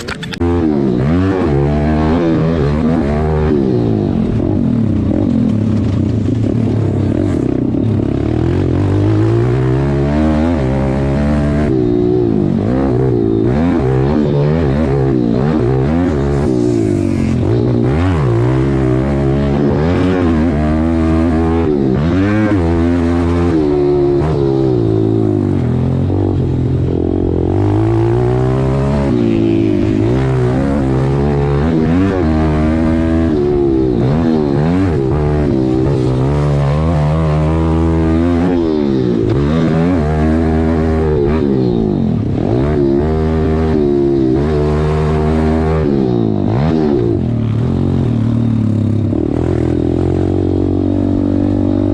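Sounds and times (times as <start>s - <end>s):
pit bike engine revving: 0.0s - 51.9s.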